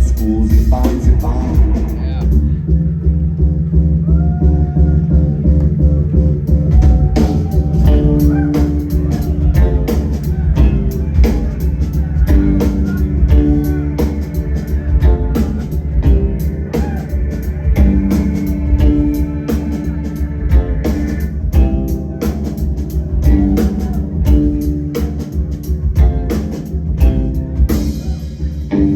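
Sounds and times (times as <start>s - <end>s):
drum-kit beat: 0.0s - 2.6s, 5.5s - 28.9s
bass guitar: 0.0s - 28.9s.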